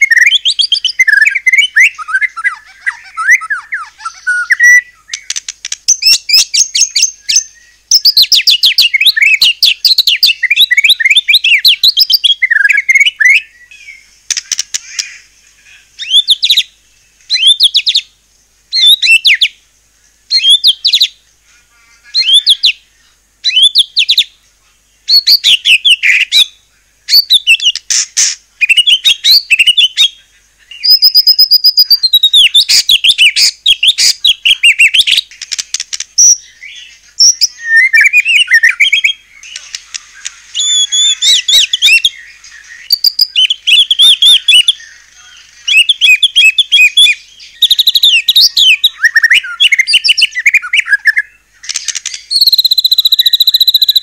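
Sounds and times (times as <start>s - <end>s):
bird singing whistles and trills: 0.0s - 14.1s, 16.0s - 16.7s, 17.3s - 18.1s, 18.7s - 19.6s, 20.3s - 21.2s, 22.2s - 22.8s, 23.4s - 24.4s, 25.0s - 27.8s, 28.6s - 35.3s, 36.2s - 54.0s.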